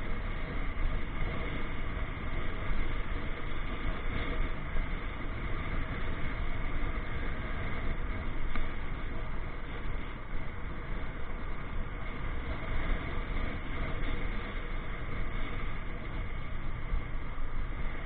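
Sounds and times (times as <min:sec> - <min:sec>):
motorcycle riding rumble: 0:00.0 - 0:18.0.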